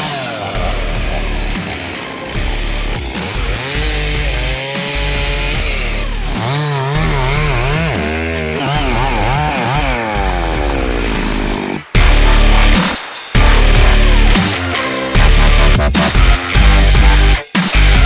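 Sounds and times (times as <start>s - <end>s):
chainsaw revving: 0.0s - 18.0s
electronic dance music: 0.0s - 18.0s.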